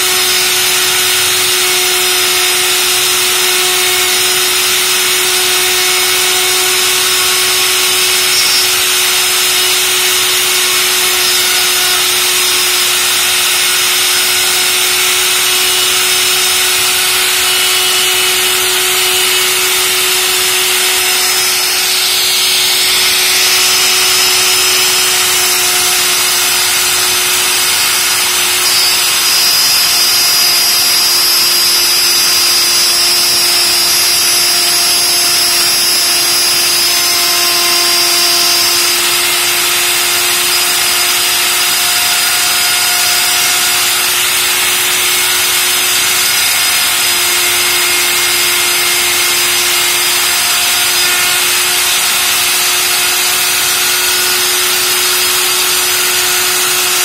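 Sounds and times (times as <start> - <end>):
router bit cutting wood: 0.0 - 57.0
router motor whine: 0.0 - 57.0.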